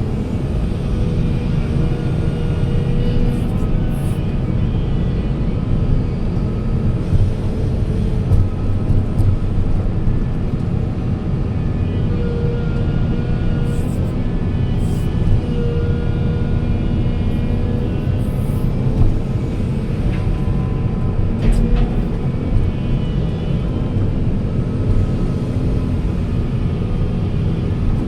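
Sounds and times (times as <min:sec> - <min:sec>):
heavy machine engine rumble: 0:00.0 - 0:28.0.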